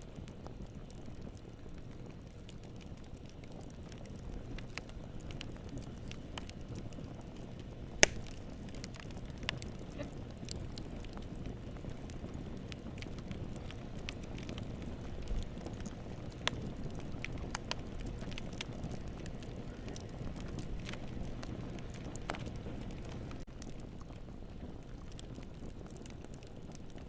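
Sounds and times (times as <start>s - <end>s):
low rush of flame: 0.0s - 27.0s
wood fire popping and snapping: 0.0s - 27.0s.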